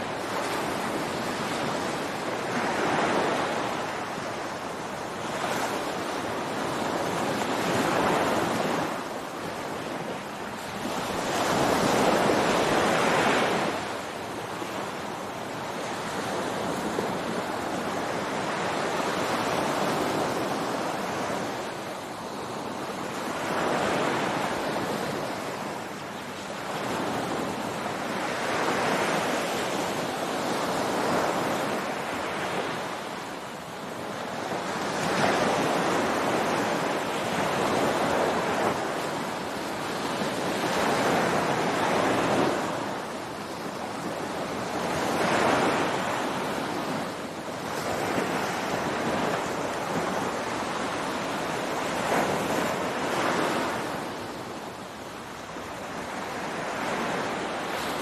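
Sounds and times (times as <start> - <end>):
ocean surf breaking on beach: 0.0 - 58.0.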